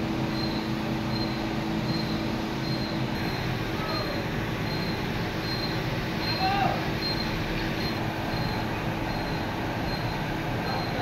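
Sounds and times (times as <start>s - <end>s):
foundry machinery drone: 0.0s - 11.0s.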